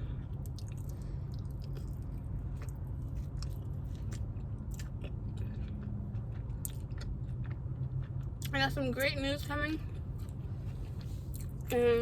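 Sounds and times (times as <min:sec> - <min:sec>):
chewing crunchy food: 0:00.2 - 0:12.0.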